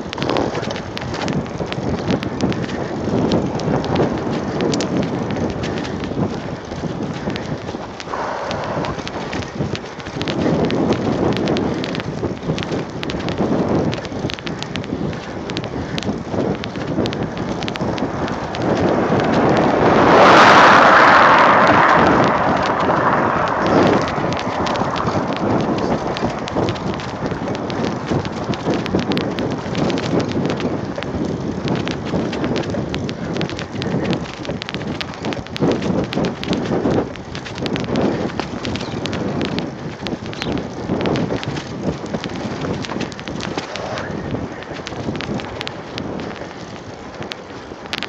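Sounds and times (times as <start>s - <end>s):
bike rattling clicks: 0.0s - 48.0s
wind buffeting microphone: 0.0s - 48.0s.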